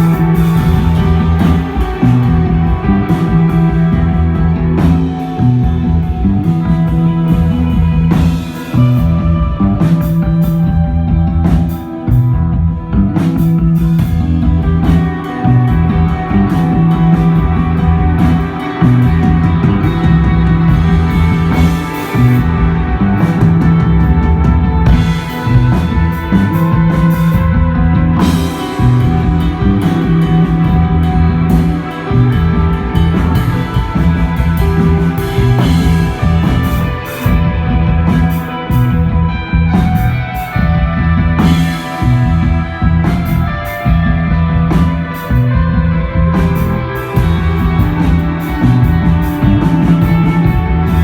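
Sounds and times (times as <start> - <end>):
drum kit with crashing cymbals: 0.0 - 12.5, 13.1 - 51.0
bass guitar: 0.0 - 51.0
electric guitar: 0.0 - 51.0.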